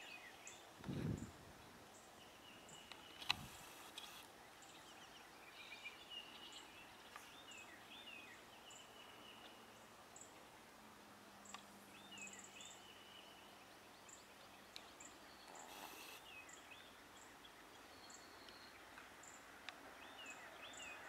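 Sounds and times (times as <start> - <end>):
small birds chirping and trilling: 0.0 - 10.7, 11.4 - 21.0.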